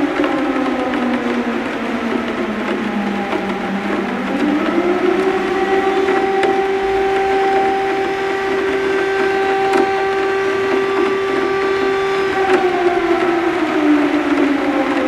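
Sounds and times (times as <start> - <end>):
air-raid siren wailing: 0.0 - 15.0
rain drumming on metal sill: 0.0 - 15.0.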